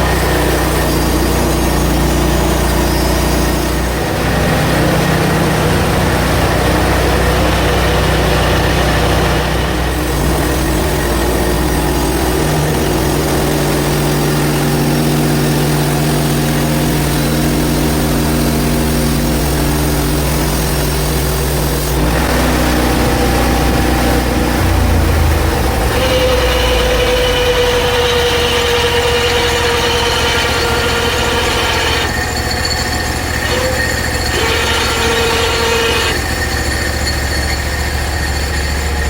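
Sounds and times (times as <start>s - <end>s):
high steady whine: 0.0s - 39.0s
sawmill engine running: 0.0s - 39.0s.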